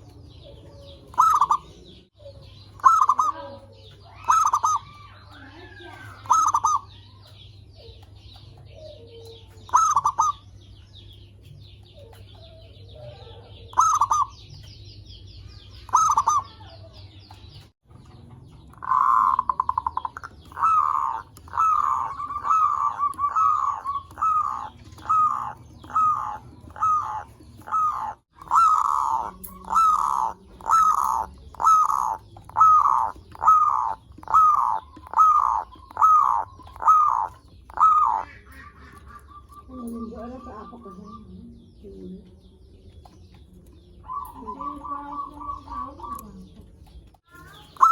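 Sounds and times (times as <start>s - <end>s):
dove cooing: 0.0s - 14.7s, 15.7s - 17.6s, 18.4s - 42.1s, 42.7s - 47.9s.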